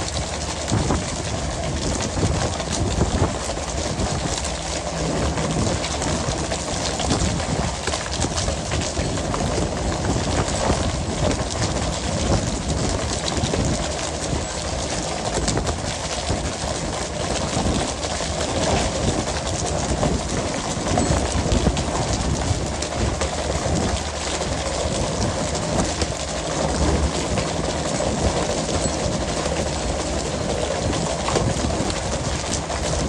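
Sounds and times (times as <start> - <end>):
engine and water rushing: 0.0 - 33.0.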